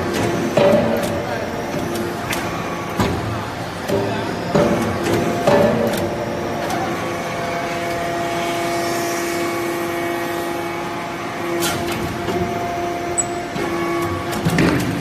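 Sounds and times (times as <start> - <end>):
motor and pump humming: 0.0 - 15.0.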